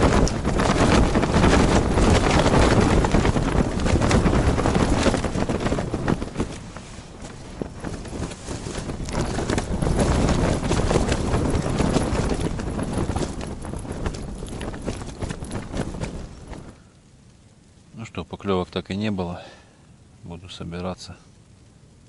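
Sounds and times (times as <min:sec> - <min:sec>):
strong wind gusts: 0:00.0 - 0:18.7
tent fabric flapping and crackling: 0:00.0 - 0:18.7.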